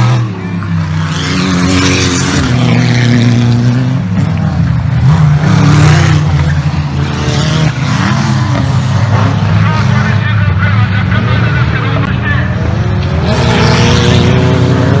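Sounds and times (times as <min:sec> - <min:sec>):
off-road race vehicle engines revving: 0:00.0 - 0:15.0.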